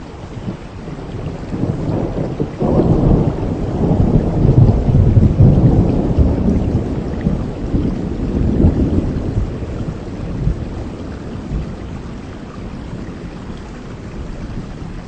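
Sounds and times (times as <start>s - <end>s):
heavy rain falling: 0.0s - 15.0s
rolling thunder rumble: 0.3s - 15.0s.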